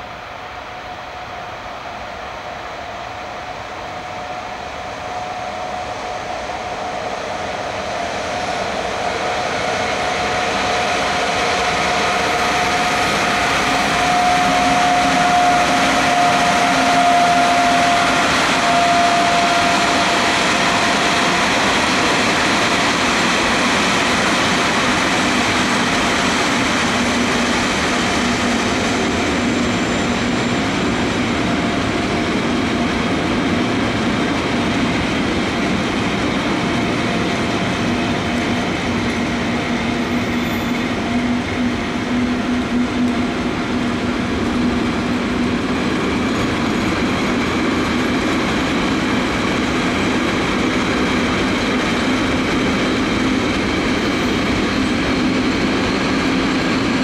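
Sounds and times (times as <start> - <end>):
electric locomotive whine: 0.0 - 57.0.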